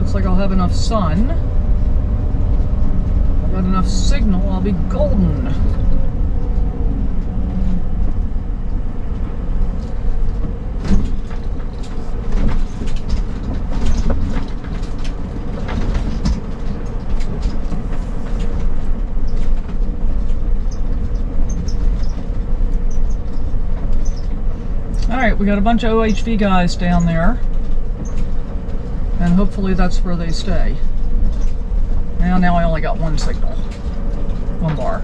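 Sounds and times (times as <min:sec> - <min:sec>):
engine and road rumble: 0:00.0 - 0:35.0
vehicle rattles and knocks: 0:00.0 - 0:35.0.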